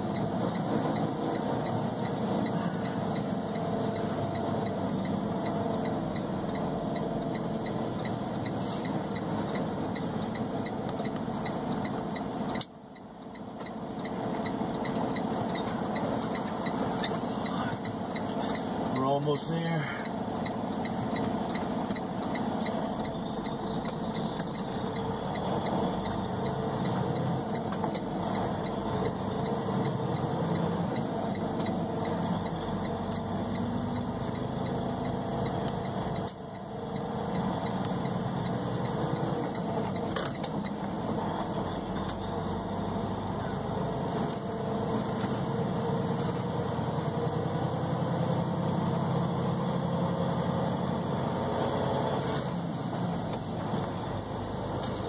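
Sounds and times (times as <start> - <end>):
truck engine and road noise: 0.0 - 55.0.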